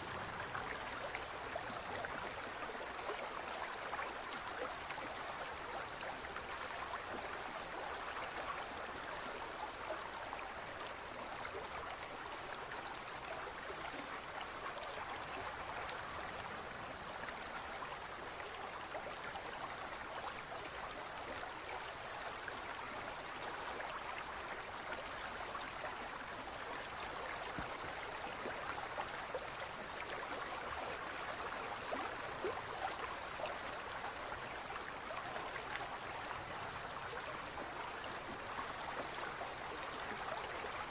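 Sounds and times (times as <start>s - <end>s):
water babbling and trickling: 0.0s - 40.9s.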